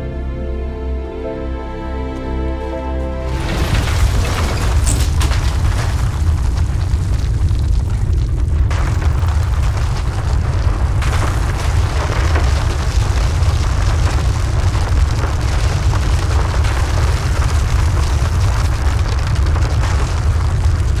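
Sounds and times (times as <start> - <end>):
deep rumbling: 3.0 - 21.0.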